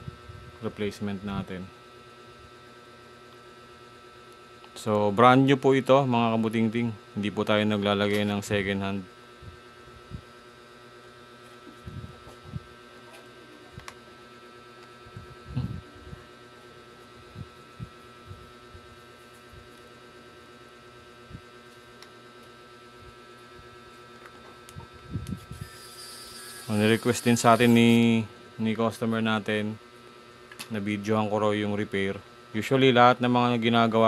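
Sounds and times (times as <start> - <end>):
faint electrical hum: 0.0 - 34.0.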